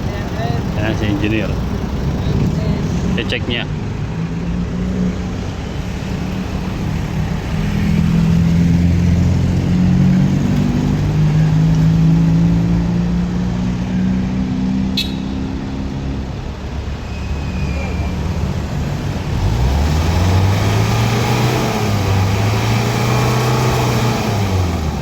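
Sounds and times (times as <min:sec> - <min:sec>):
diesel van engine revving: 0:00.0 - 0:25.0.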